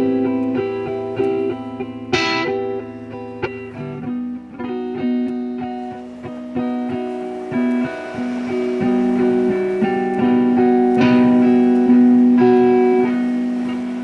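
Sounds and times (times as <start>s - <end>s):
guitar picking sustained notes: 0.0s - 14.0s
guitar strum: 0.0s - 14.0s.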